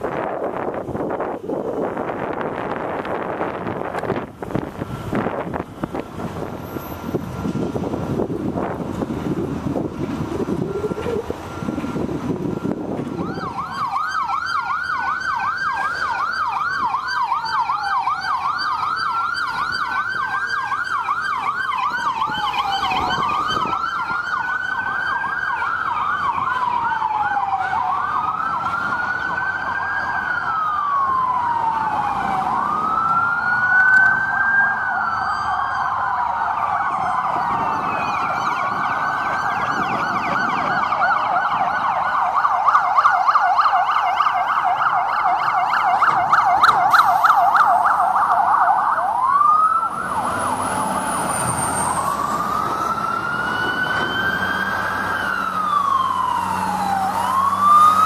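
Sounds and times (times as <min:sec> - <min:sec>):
police siren yelp and wail: 0:00.0 - 0:58.0.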